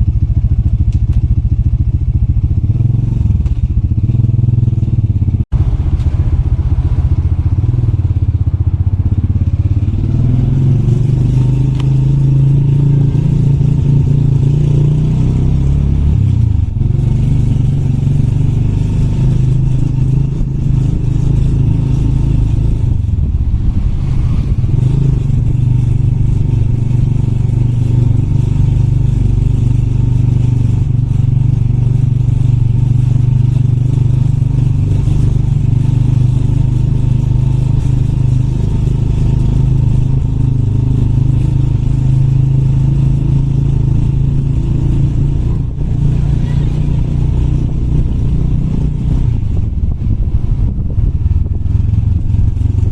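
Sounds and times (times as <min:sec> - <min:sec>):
motorbike engine running: 0:00.0 - 0:52.9.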